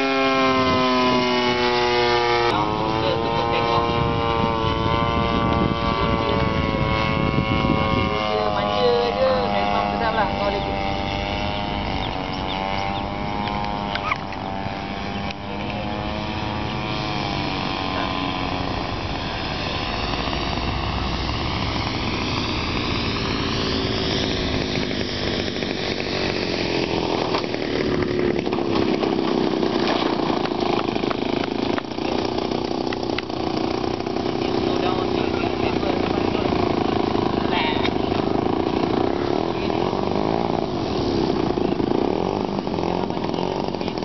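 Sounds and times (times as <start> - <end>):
model plane engine in flight: 0.0 - 44.0.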